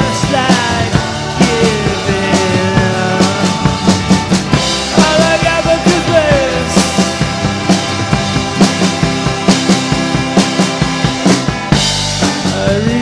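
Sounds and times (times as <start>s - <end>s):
instrumental rock music: 0.0s - 13.0s
steady drum beat: 0.0s - 13.0s.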